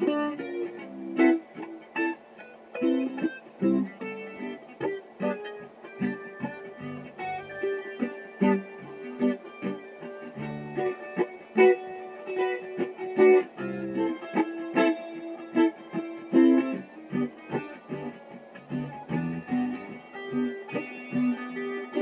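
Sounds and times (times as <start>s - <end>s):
solo guitar picking: 0.0s - 22.0s.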